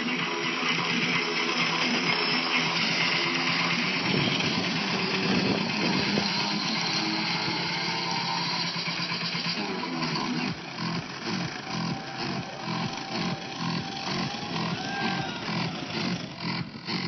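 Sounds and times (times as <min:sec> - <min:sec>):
radio-controlled trucks motor: 0:00.0 - 0:17.0.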